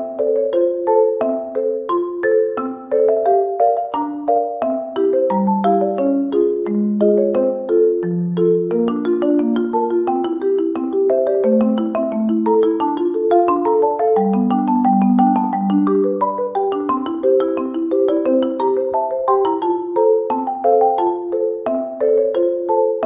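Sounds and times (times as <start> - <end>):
bouncy background music: 0.0 - 23.0.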